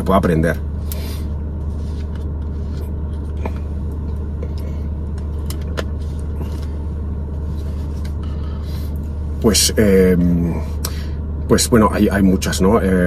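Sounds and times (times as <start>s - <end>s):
car engine rumble from cabin: 0.0s - 13.0s.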